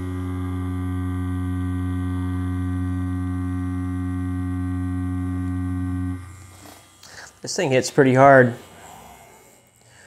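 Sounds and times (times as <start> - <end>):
tattoo machine humming: 0.0 - 10.0.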